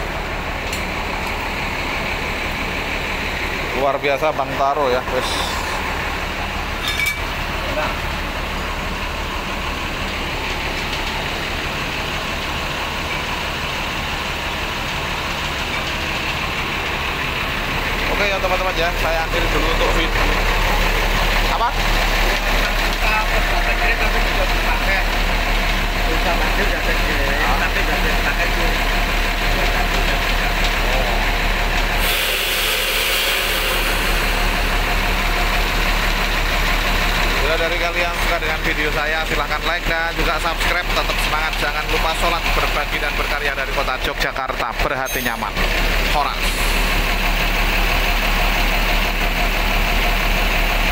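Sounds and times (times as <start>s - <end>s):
diesel bus engine idling: 0.0s - 50.9s.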